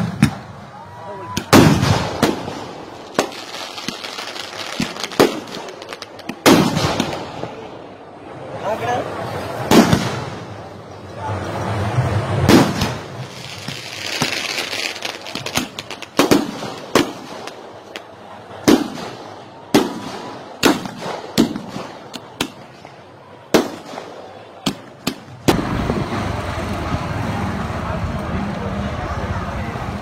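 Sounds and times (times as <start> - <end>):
fireworks bangs: 0.0 - 7.9, 9.0 - 28.0
fireworks crackles: 0.0 - 7.9, 9.0 - 28.8.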